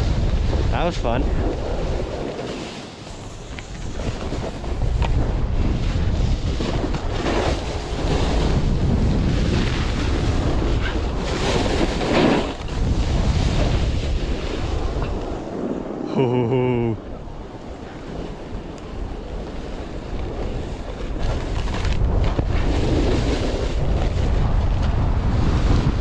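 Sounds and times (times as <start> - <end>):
wind buffeting microphone: 0.0 - 2.4, 3.1 - 16.1, 16.7 - 26.0
snowboard sliding on snow: 0.0 - 26.0.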